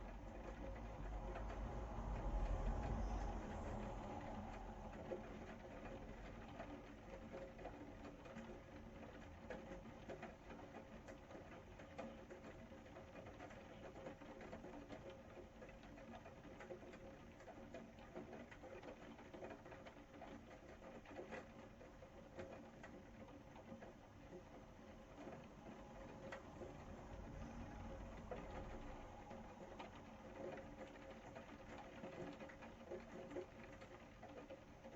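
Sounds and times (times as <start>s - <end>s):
faint rain pattering: 0.0s - 34.9s.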